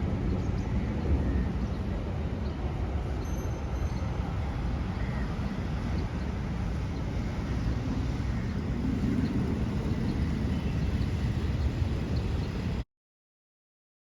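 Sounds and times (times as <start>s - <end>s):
low hum: 0.0s - 12.8s
low outdoor rumble: 0.0s - 12.8s.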